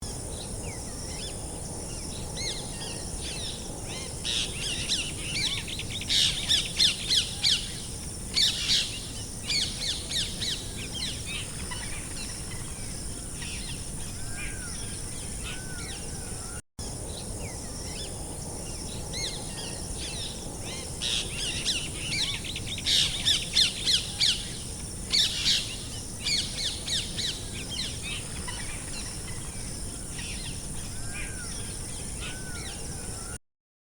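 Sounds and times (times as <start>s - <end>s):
steady background hiss: 0.0s - 33.4s
songbirds chirping and trilling: 0.1s - 33.4s.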